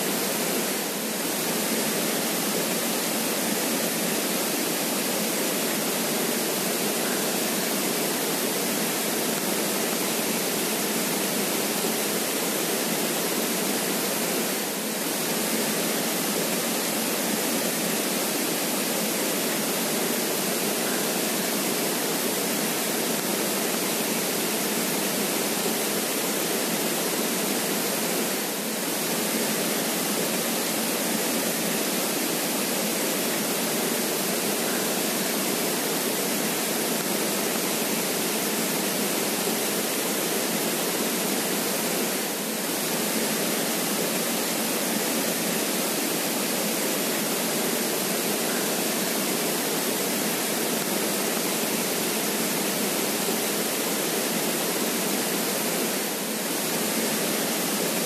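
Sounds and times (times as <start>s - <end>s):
creek water flowing: 0.0s - 58.0s.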